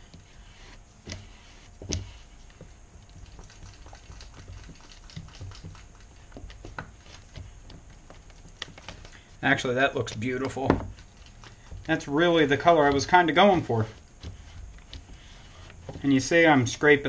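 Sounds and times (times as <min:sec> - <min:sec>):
stick scraping plastic cup: 0:00.0 - 0:16.4.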